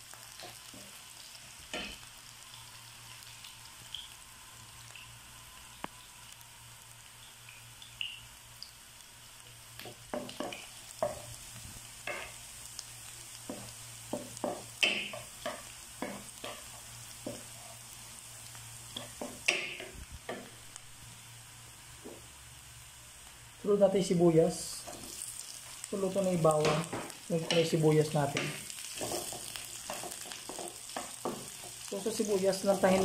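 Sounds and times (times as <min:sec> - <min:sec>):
ginger sizzling in oil: 0:00.0 - 0:33.0.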